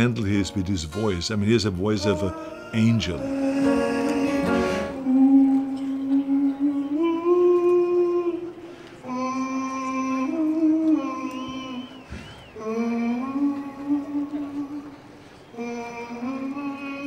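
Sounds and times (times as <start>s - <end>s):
man singing slow song: 0.0s - 17.0s.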